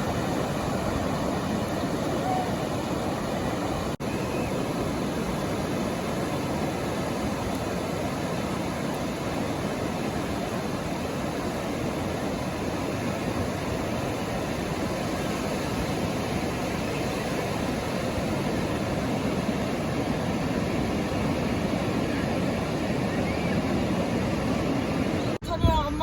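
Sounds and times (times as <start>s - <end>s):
ocean surf rushing: 0.0s - 25.4s
wind at the shore: 0.0s - 26.0s.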